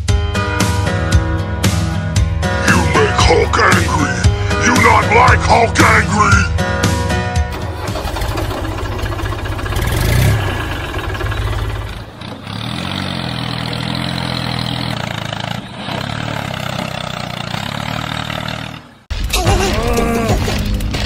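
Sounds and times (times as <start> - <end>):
tractor engine running: 2.2 - 19.2.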